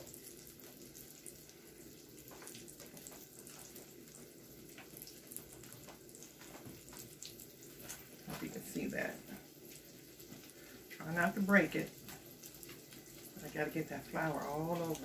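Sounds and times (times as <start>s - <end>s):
cauliflower frying in hot oil: 0.0s - 15.0s
oil crackling: 0.0s - 15.0s.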